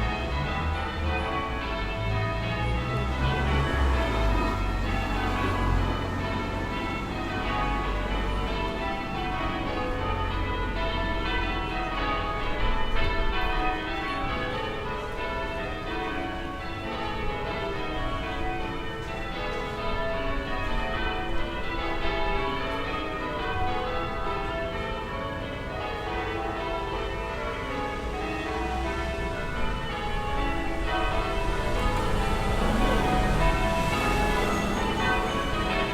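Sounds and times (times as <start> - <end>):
distant church bells pealing: 0.0 - 35.9
low town rumble: 0.0 - 35.9.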